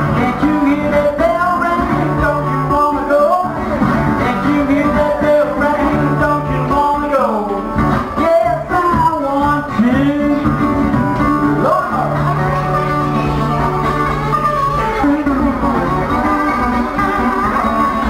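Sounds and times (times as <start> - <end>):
person singing: 0.0 - 18.0
resonator guitar picked and strummed: 0.0 - 18.0.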